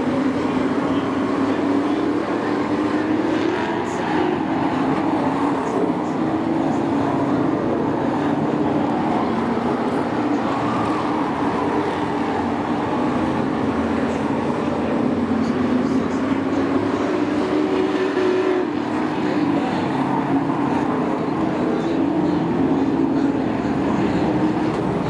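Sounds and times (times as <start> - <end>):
race truck engines droning: 0.0 - 25.0.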